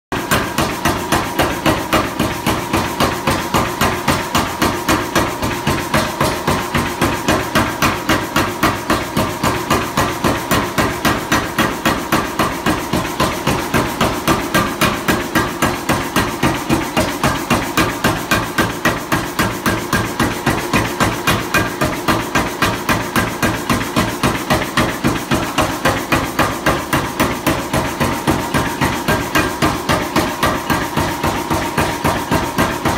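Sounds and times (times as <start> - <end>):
air hammer pounding metal: 0.1 - 32.9.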